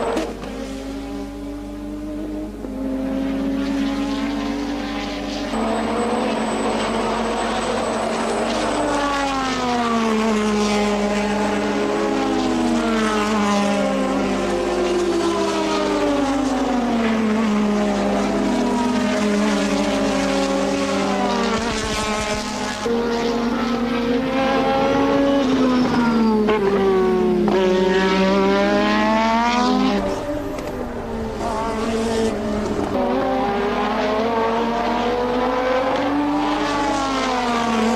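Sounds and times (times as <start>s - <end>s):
racing car engines: 0.0s - 37.9s.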